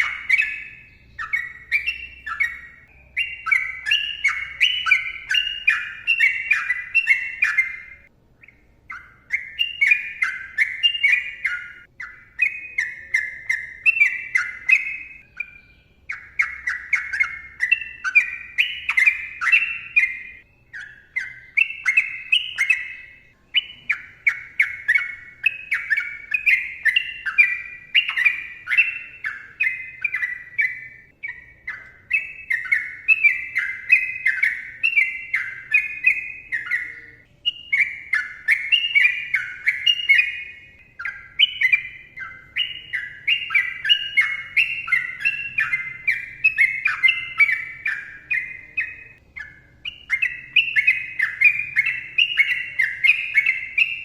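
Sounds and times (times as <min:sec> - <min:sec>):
bulbul singing: 0:00.0 - 0:54.0.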